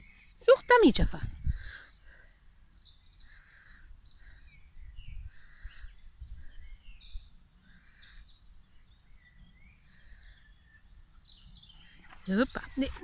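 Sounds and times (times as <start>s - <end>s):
birds singing and chirping: 0.0s - 13.0s.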